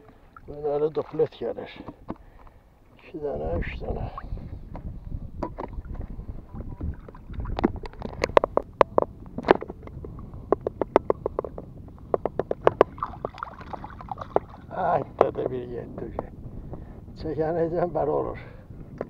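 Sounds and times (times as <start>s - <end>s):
low rumble of water and wind: 0.0s - 19.0s.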